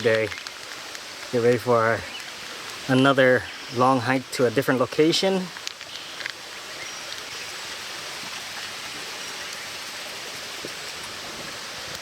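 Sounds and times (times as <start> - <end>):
running water hiss: 0.0 - 12.0.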